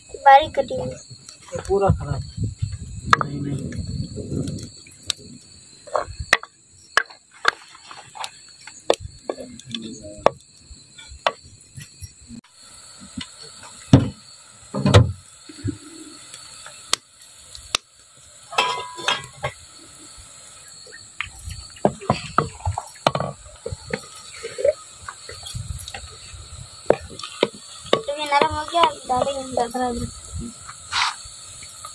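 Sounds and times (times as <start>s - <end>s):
crickets chirping: 0.0s - 31.9s.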